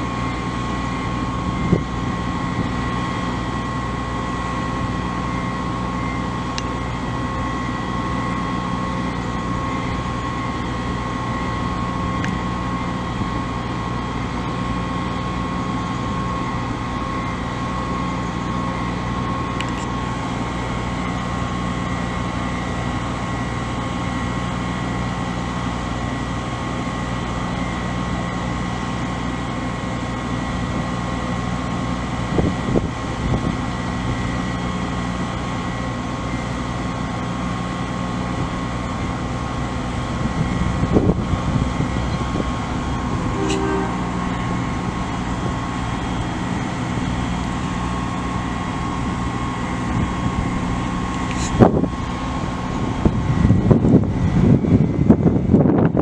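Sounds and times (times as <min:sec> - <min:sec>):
constant high whine: 0:00.0 - 0:56.0
diesel engine running: 0:00.0 - 0:56.0.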